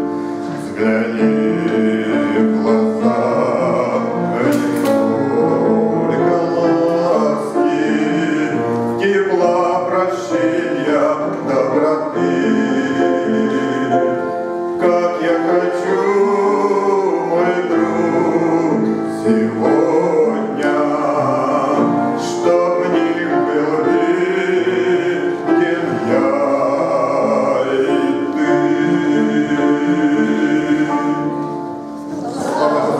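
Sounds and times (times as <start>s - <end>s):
instrumental accompaniment: 0.0s - 32.9s
man singing a hymn: 0.0s - 32.9s.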